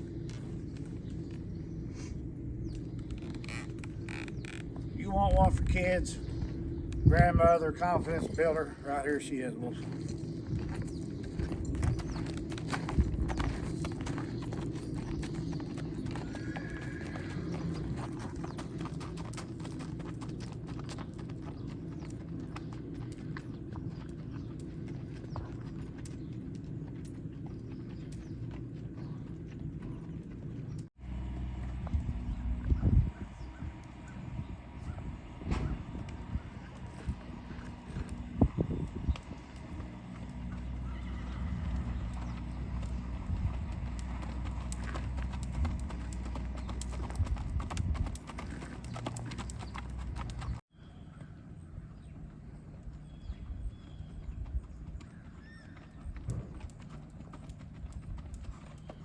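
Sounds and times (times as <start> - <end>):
horse hooves clip-clopping: 0.0 - 7.0, 7.8 - 59.0
low rumble: 0.0 - 50.6.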